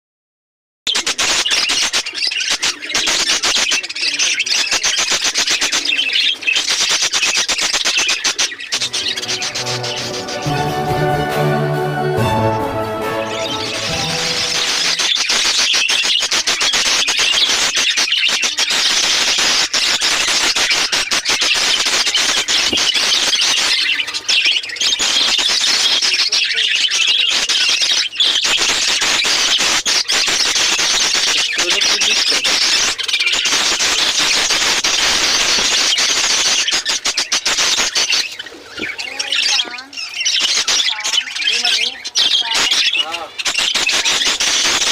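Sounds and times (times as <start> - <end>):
budgerigars chattering and squawking: 0.9 - 10.8, 13.2 - 44.9.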